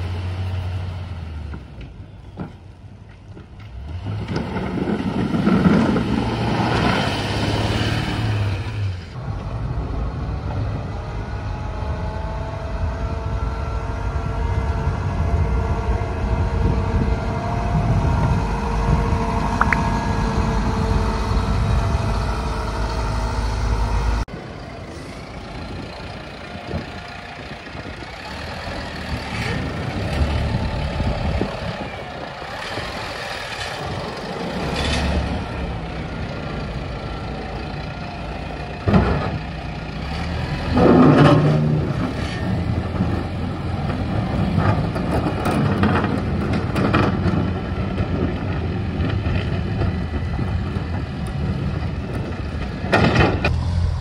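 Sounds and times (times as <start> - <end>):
truck engines droning: 0.0 - 54.0.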